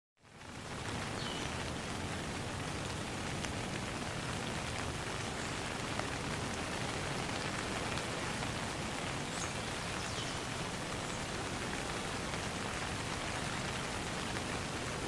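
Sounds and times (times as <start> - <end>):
rain falling on a pond: 0.2 - 15.0.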